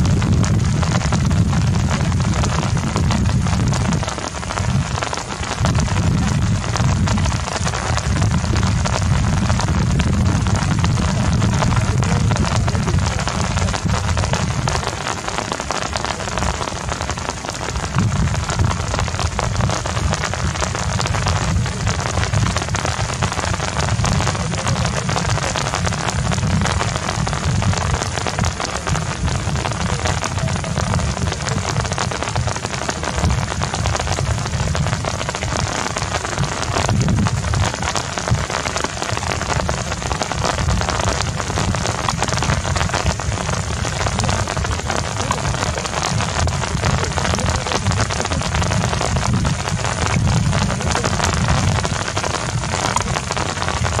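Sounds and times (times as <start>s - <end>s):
low rumble: 0.0s - 15.2s, 15.8s - 54.0s
heavy rain: 0.0s - 54.0s.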